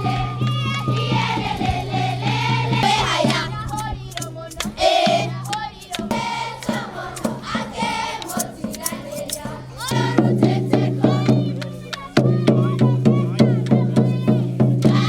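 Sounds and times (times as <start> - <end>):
group of voices singing: 0.0 - 15.0
knocking beat: 0.0 - 15.0.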